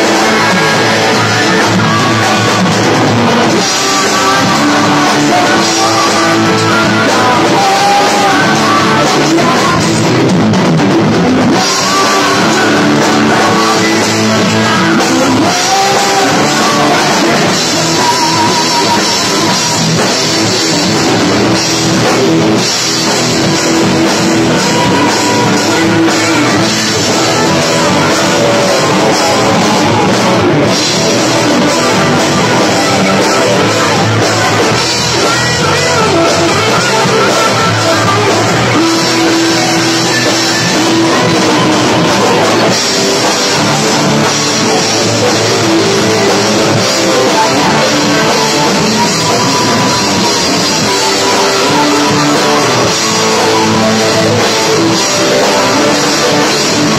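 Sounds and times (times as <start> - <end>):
drum kit: 0.0 - 56.9
electric guitars: 0.0 - 56.9
rock band playing live: 0.0 - 56.9.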